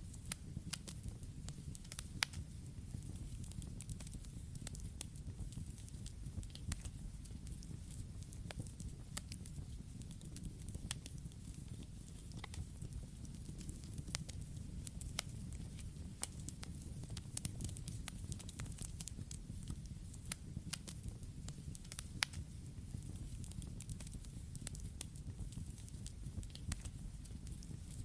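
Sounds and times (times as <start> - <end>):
low rumble of flames: 0.0 - 28.0
campfire pops and snaps: 0.1 - 28.0.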